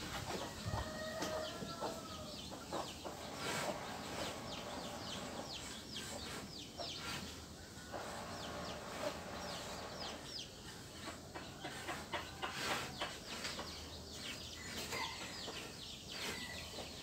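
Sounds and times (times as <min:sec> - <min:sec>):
chickens peeping: 0:00.0 - 0:17.0.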